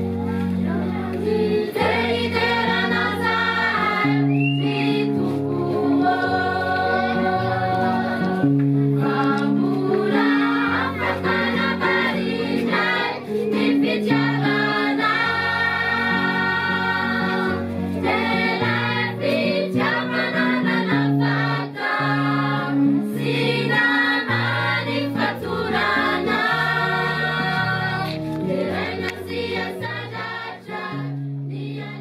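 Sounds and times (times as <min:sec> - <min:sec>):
choir singing held notes: 0:00.0 - 0:32.0.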